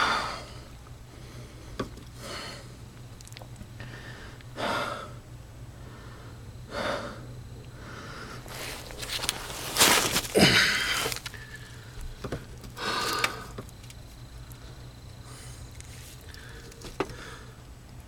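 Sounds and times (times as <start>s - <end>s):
man breathing hard: 0.0s - 2.8s, 3.8s - 13.6s, 15.2s - 17.7s
steady low hum: 0.0s - 18.0s.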